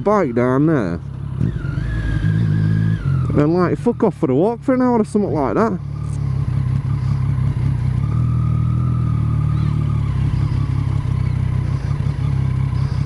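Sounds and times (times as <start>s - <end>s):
motorcycle engine and exhaust drone: 0.0s - 13.0s
road and wind noise: 0.0s - 13.0s.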